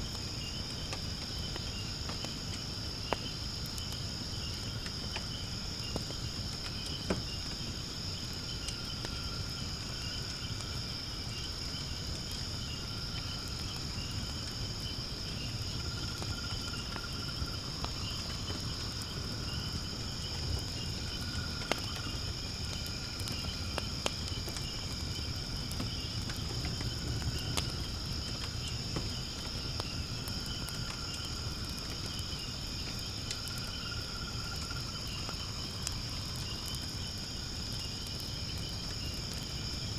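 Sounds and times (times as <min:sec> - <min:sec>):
crickets trilling: 0:00.0 - 0:39.9
firewood crackling and popping: 0:00.0 - 0:39.9.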